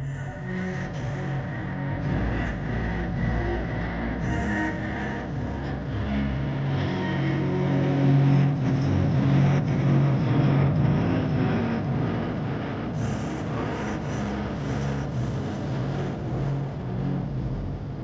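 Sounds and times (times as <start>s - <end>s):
bass-heavy music through car speakers: 0.0s - 18.0s.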